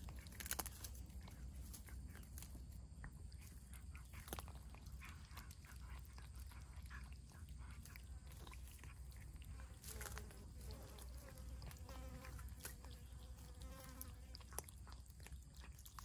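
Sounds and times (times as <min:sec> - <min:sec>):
cat chewing wetly: 0:00.0 - 0:16.0.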